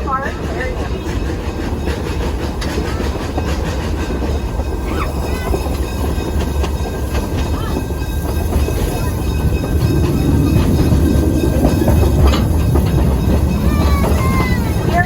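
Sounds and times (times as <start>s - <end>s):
rail joints clicking: 0.0s - 15.0s
train wheels rumbling: 0.0s - 15.0s.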